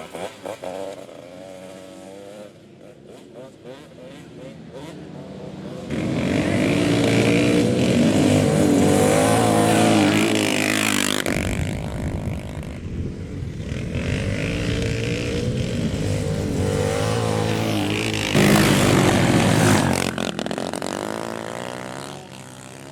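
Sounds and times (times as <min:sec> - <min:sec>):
motorcycle engines revving: 0:00.0 - 0:22.9.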